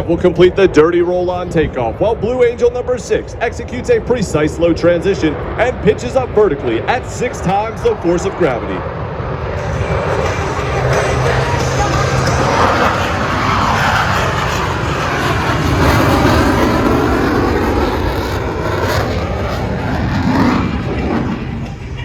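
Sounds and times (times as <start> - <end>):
jet roar passing low: 0.0 - 22.0.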